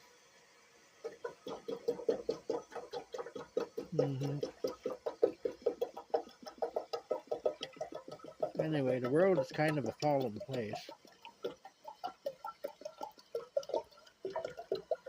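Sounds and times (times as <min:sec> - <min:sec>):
wet chewing and smacking: 0:01.0 - 0:15.0.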